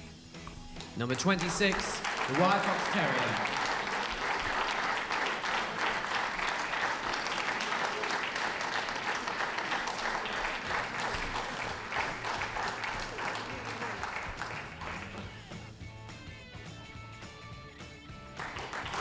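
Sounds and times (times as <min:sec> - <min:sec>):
audience applauding: 0:00.8 - 0:15.5, 0:18.3 - 0:19.0.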